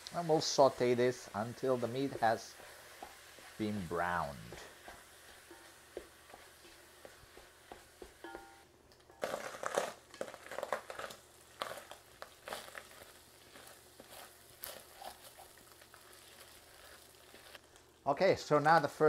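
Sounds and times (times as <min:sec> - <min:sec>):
wooden spatula scraping pot: 0:00.0 - 0:08.6, 0:09.2 - 0:17.6
faint frying hiss: 0:00.0 - 0:19.0.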